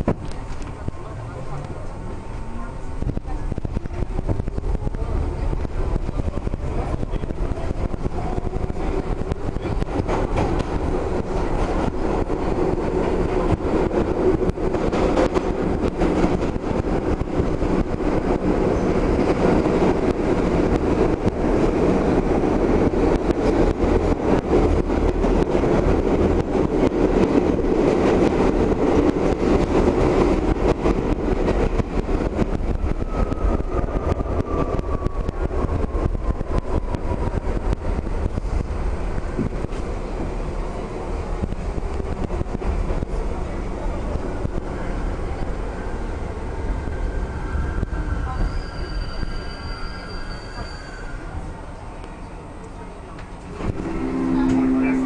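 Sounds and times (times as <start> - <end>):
subway car rumble and rattling: 0.0 - 55.0.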